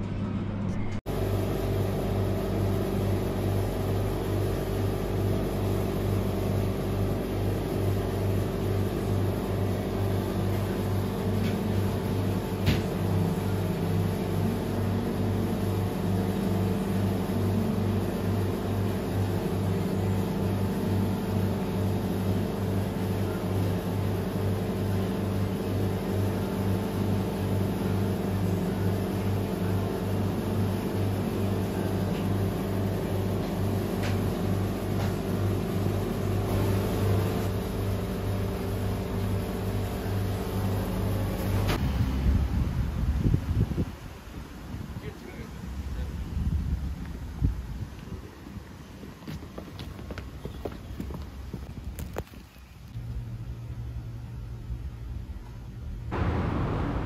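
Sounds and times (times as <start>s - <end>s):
mechanical hum with low throb: 0.0s - 57.0s.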